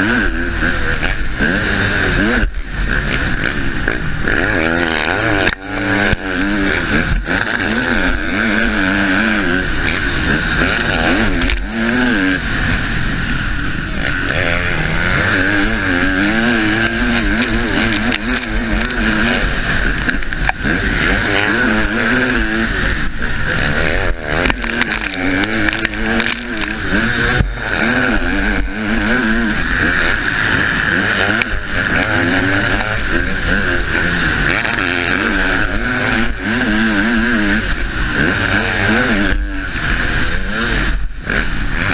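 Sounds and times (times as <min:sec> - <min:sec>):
motocross engine revving: 0:00.0 - 0:41.9.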